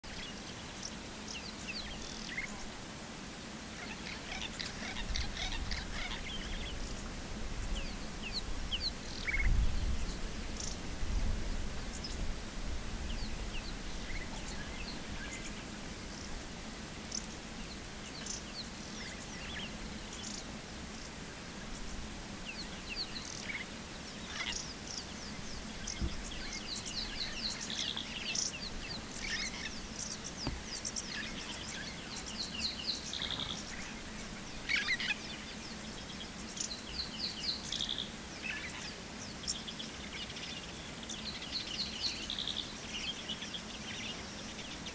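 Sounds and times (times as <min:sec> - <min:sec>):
wild birds chirping: 0:00.0 - 0:44.9
steady low hum: 0:00.1 - 0:41.4.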